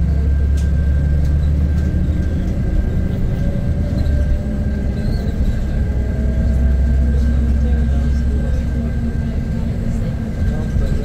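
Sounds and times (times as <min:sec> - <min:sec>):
vehicle running rumble: 0:00.0 - 0:11.0.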